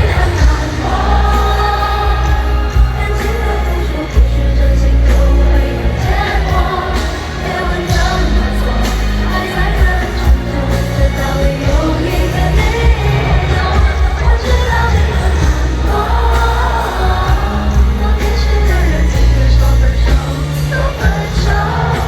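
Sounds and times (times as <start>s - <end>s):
live pop ballad with band: 0.0s - 22.0s.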